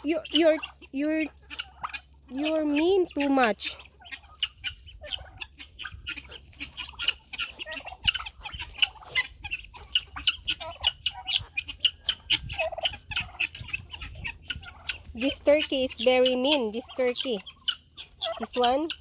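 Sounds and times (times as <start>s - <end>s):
turkeys clucking: 0.0s - 19.0s.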